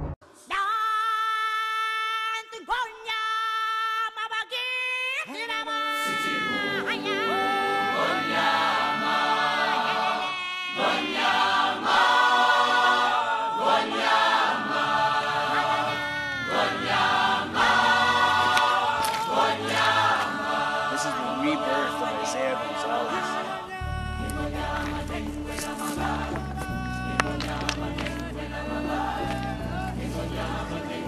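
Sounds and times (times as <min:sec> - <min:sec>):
choir singing chant-like phrases: 0:05.6 - 0:31.0.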